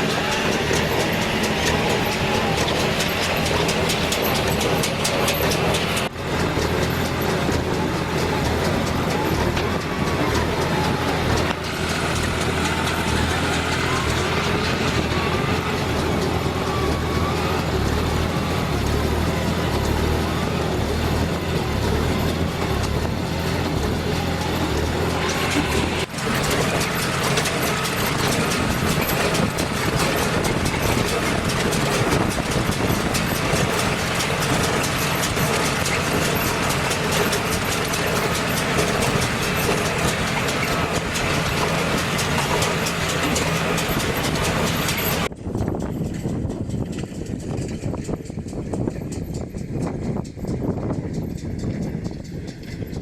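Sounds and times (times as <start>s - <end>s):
baler clicking and clatter: 0.0s - 53.0s
tractor engine running: 0.0s - 53.0s.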